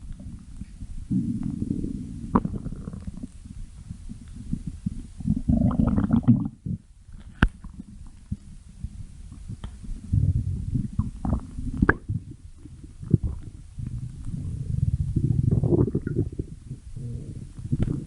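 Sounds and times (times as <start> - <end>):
stomach growling: 0.0 - 18.0.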